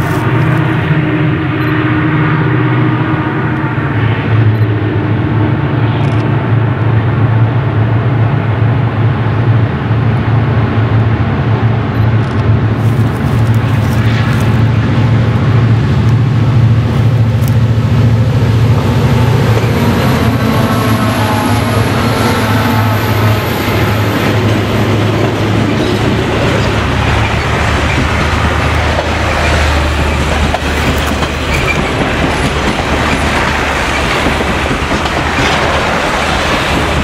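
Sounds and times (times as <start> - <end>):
diesel locomotive engines droning: 0.0 - 37.0.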